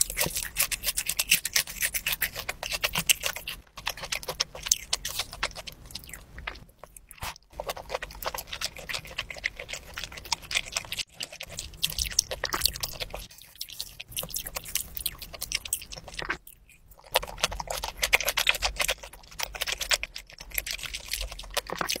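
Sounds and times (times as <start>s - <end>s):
wet clicky chewing sounds: 0.0s - 22.0s.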